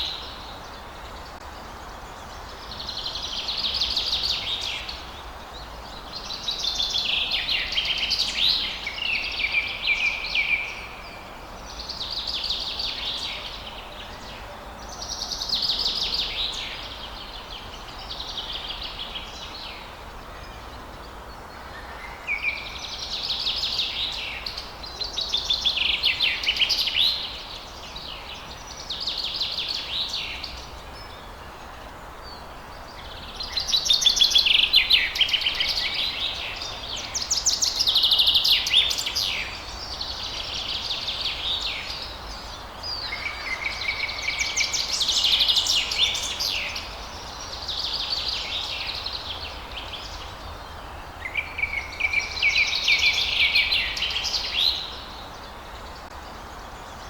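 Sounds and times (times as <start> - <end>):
songbirds trilling and chirping: 0.0 - 57.0
steady background hiss: 0.0 - 57.0.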